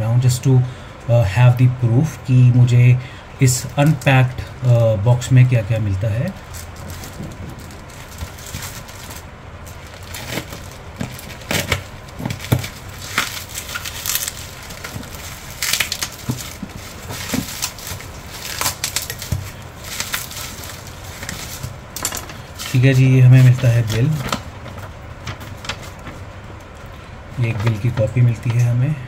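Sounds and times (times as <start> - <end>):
plastic mailer crinkling: 3.4 - 28.9.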